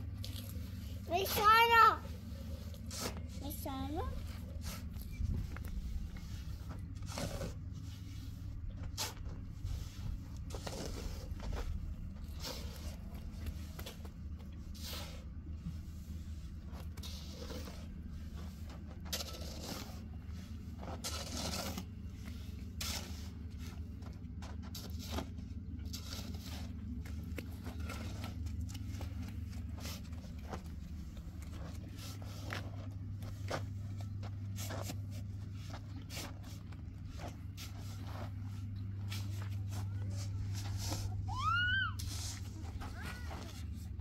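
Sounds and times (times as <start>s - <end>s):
shovel scraping dry earth: 0.0s - 44.0s
steady low hum: 0.0s - 44.0s.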